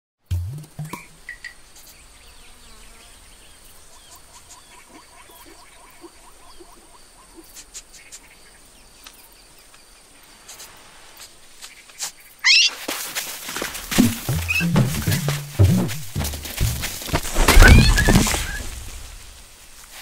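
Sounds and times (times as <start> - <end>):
faint steady hiss: 0.6 - 20.0.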